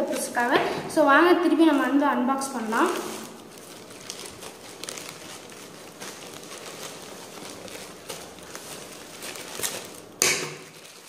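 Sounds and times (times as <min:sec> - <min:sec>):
plastic crinkling: 0:00.0 - 0:00.7, 0:01.4 - 0:11.0.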